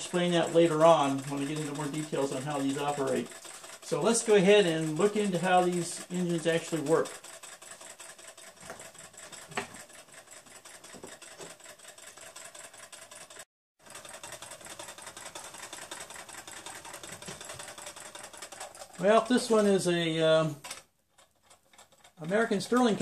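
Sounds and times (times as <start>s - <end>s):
model engine ticking: 0.0s - 23.0s.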